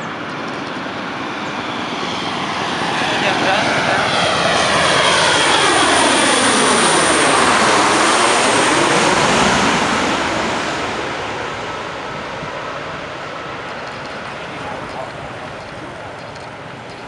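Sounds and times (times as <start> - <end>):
jet airliner roar passing: 0.0 - 17.0.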